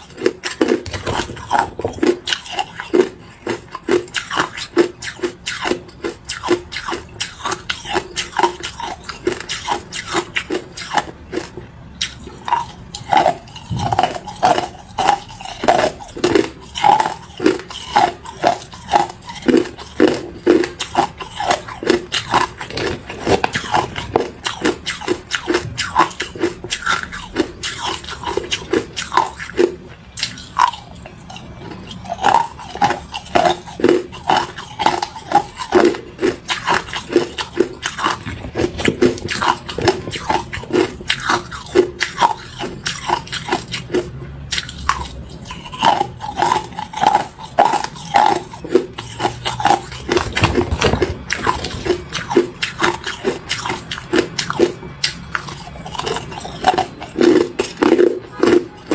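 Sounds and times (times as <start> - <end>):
ice cubes crunched by chewing: 0.0 - 58.9.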